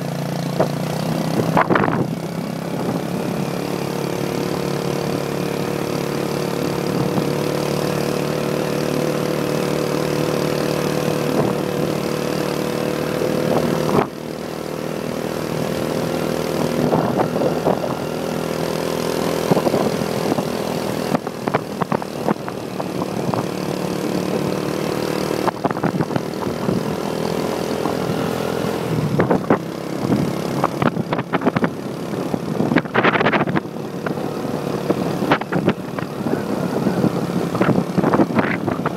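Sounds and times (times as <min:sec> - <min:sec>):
motorbike engine running: 0:00.0 - 0:38.9.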